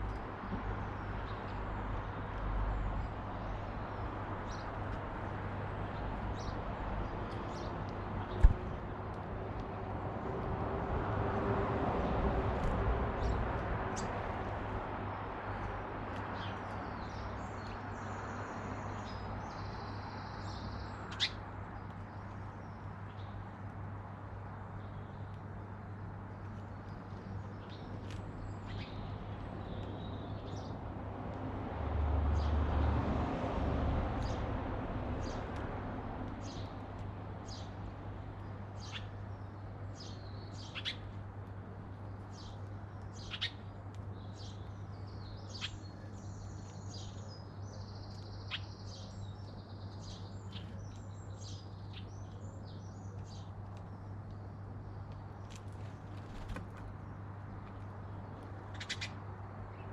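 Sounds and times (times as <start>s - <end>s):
garden birds chirping: 0.0s - 10.4s, 11.6s - 30.9s, 35.2s - 59.9s.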